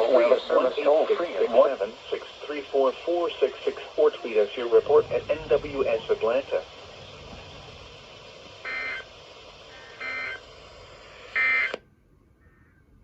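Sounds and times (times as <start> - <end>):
buzzy data bursts: 0.0 - 11.8
radio hiss: 0.0 - 11.8.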